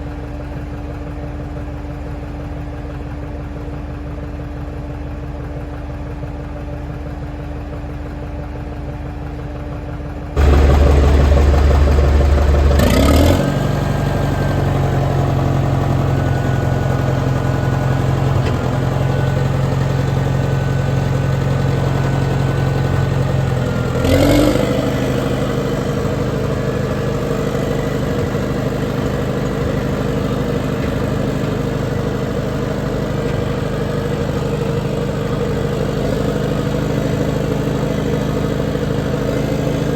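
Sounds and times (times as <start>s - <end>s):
heavy equipment engine running: 0.0s - 39.9s.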